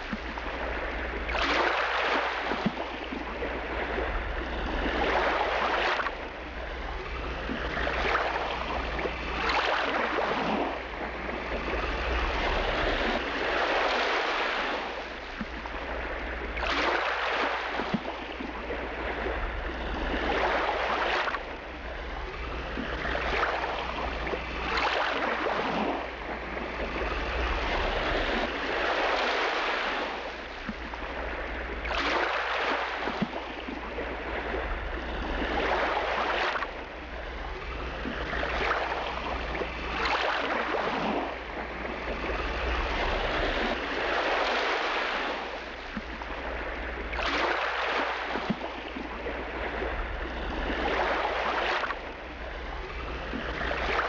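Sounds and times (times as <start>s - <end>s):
waves washing in and drawing back: 0.0s - 54.0s.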